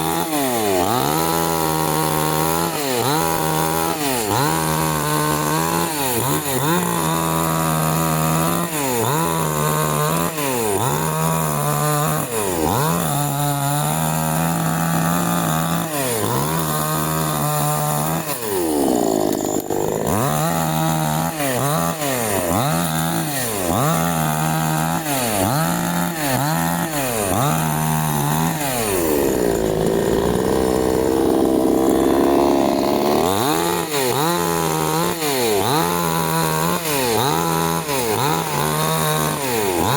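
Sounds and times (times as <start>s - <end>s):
chainsaw running hard: 0.0s - 39.9s.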